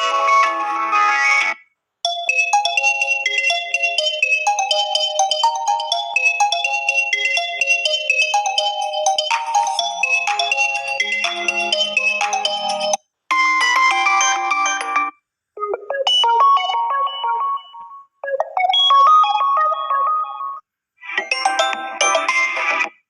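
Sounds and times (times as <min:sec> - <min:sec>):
electronic ringtone tunes: 0:02.0 - 0:22.8.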